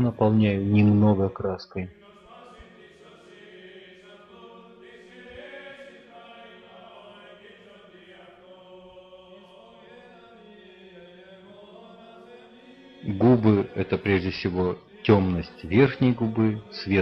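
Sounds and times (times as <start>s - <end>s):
choir chanting held notes: 1.9s - 17.0s.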